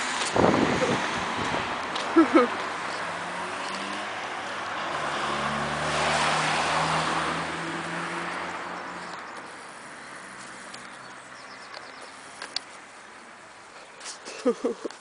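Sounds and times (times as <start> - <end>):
motor vehicle passing by: 0.0 - 14.6.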